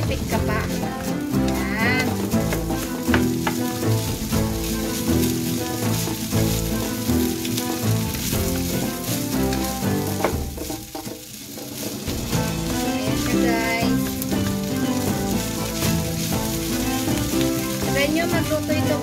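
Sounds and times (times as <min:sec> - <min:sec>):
background music: 0:00.0 - 0:19.0
rice sizzling in a wok: 0:00.0 - 0:19.0
wooden spatula scraping a wok: 0:00.0 - 0:19.0.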